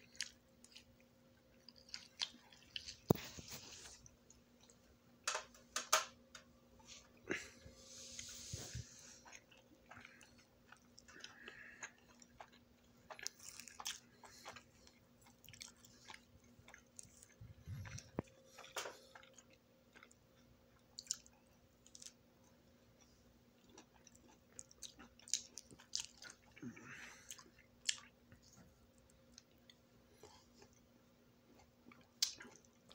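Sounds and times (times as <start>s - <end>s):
person chewing food: 0.0s - 4.9s, 6.8s - 32.9s.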